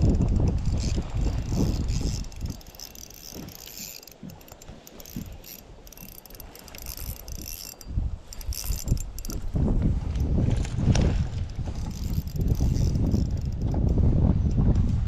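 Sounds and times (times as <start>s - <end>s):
fishing reel cranking: 0.0s - 10.7s, 11.4s - 14.0s
wind gusts on microphone: 0.0s - 15.0s.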